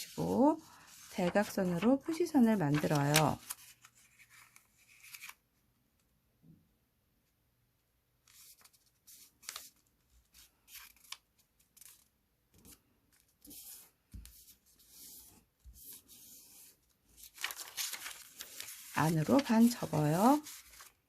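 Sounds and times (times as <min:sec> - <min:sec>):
paper being folded: 0:00.0 - 0:05.4, 0:08.2 - 0:21.0.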